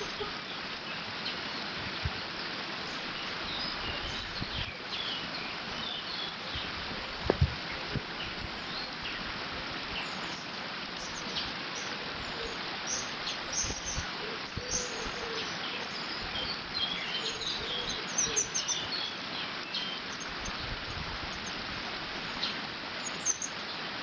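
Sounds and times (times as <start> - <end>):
small birds chirping: 0.0 - 21.6, 22.2 - 24.0.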